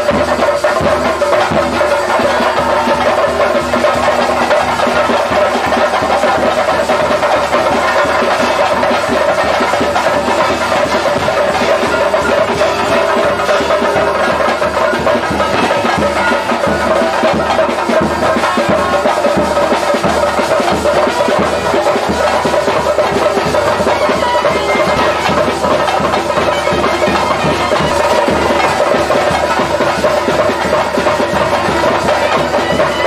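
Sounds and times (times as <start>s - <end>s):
steady drum beats: 0.0s - 33.0s.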